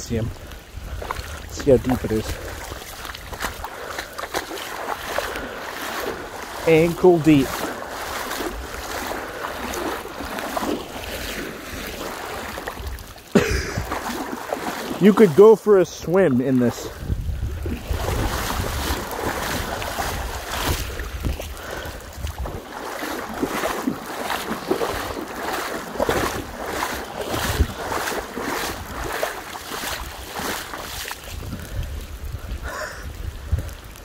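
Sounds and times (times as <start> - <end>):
wind rumble on microphone: 0.0 - 14.8, 16.6 - 34.0
feet splashing through water: 0.0 - 34.0.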